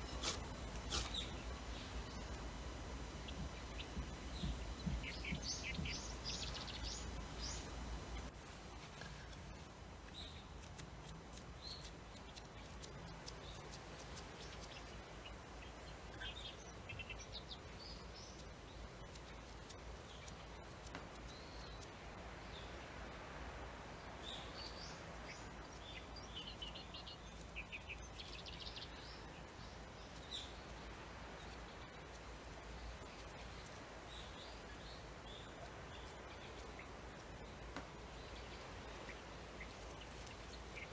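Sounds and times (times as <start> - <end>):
small birds chirping: 0.0 - 23.0, 24.0 - 40.9
steady low hiss: 0.0 - 40.9.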